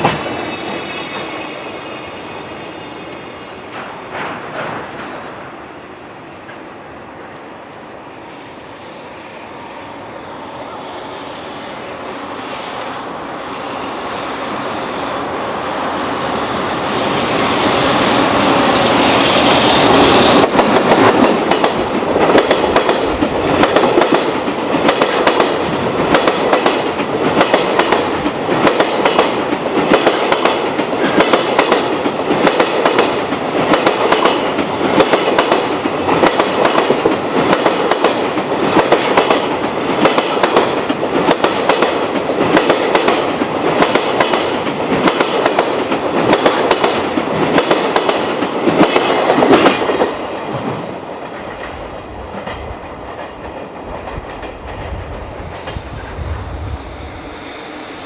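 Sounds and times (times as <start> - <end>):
train wheels clacking on rails: 0.0 - 8.4, 13.4 - 56.3
freight train rumble: 0.0 - 58.0.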